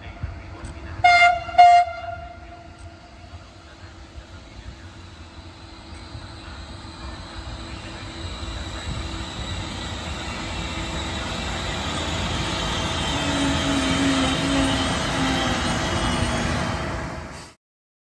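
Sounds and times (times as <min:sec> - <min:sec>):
train wheels rumbling on rail: 0:00.0 - 0:17.6.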